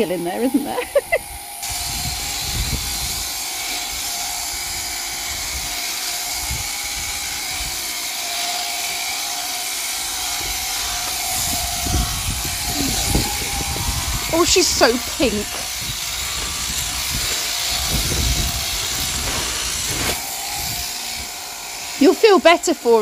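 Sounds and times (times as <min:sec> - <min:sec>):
shearing handpiece whirring: 0:00.0 - 0:23.0.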